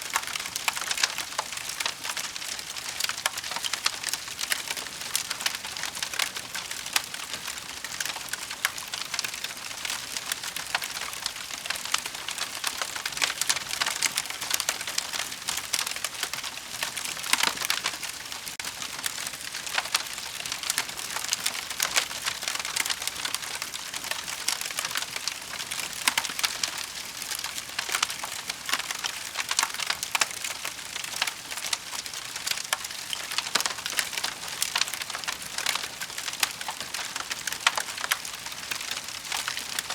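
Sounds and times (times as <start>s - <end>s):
burning wood crackling: 0.0s - 39.9s.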